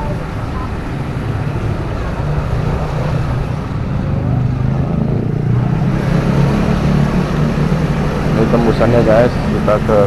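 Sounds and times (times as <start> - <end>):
motorcycle engines running: 0.0 - 10.0.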